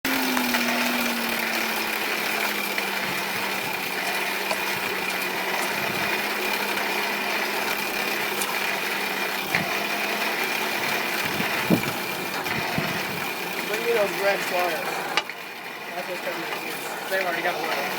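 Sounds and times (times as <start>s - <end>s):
electric blower motor humming: 0.0s - 17.9s.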